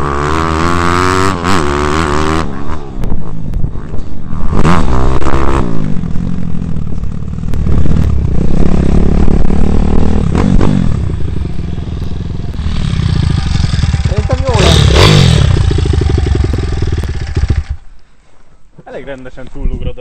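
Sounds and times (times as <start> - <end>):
motorbike engine revving and idling: 0.0 - 17.9.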